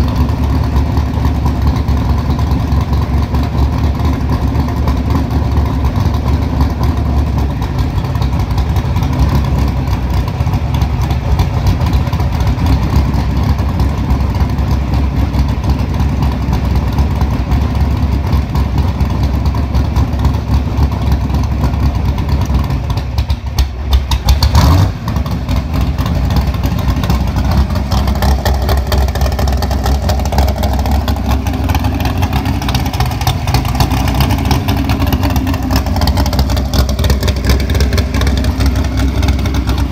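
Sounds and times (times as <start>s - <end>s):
loud car engine running: 0.0s - 39.9s.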